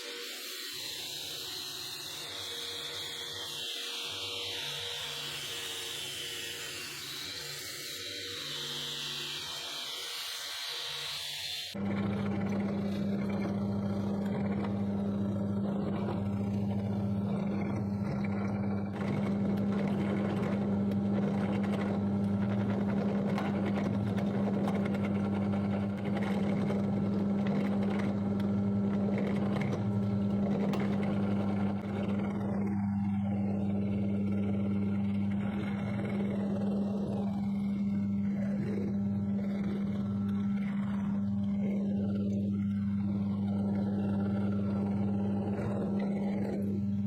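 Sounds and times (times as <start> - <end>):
power tool motor humming: 0.0 - 47.0.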